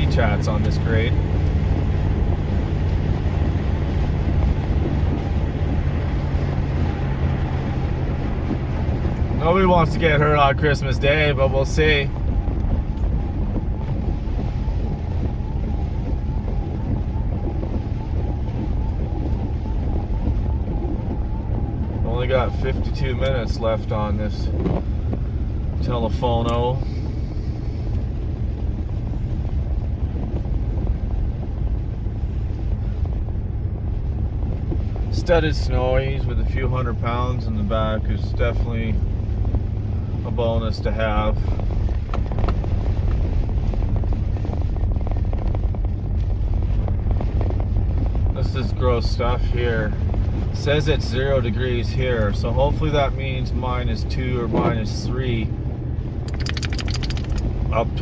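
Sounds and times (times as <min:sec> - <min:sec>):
truck engine and tyres droning: 0:00.0 - 0:58.0.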